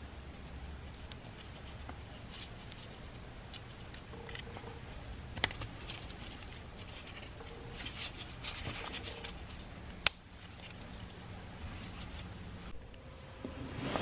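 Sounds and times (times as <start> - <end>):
gloved handling rustling: 1.0 - 12.8.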